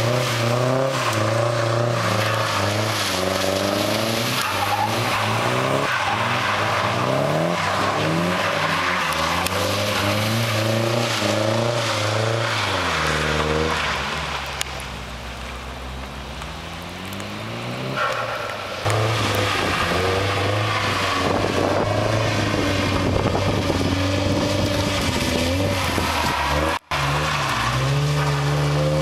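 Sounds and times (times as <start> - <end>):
car engine revving: 0.0 - 29.0
tyres hissing on wet tarmac: 0.0 - 29.0.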